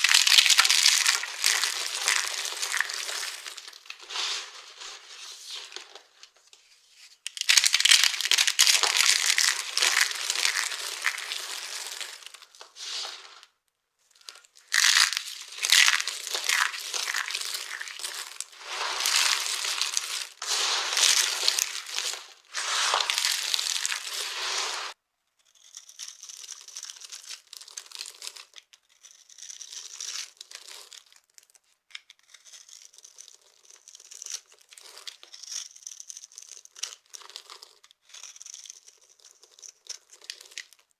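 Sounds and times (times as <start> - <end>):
dry soap crunching by hand: 0.0 - 6.2, 7.3 - 13.4, 14.2 - 40.9.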